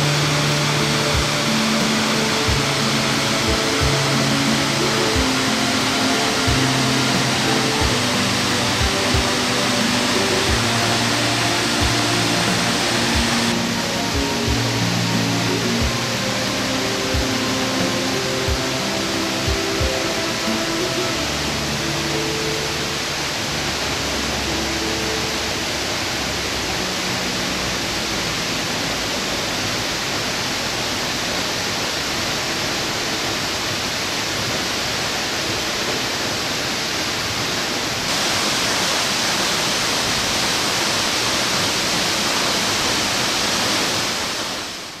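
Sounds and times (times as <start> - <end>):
faint music: 0.0 - 45.0
rocky mountain stream: 0.0 - 45.0
waterfall rushing: 0.0 - 45.0.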